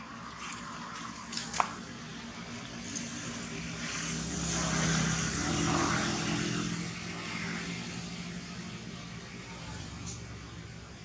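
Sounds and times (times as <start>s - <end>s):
motor vehicle engine hum: 0.0s - 11.0s.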